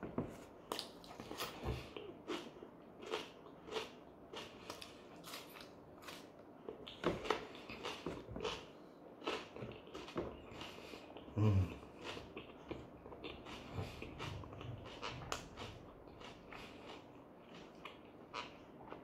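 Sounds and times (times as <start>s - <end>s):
wet chewing mouth noises: 0.7s - 19.0s.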